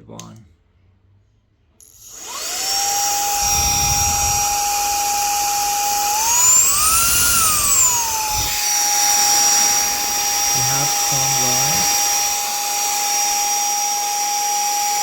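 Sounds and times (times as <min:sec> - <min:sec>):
handheld vacuum motor whining: 0:01.8 - 0:15.0.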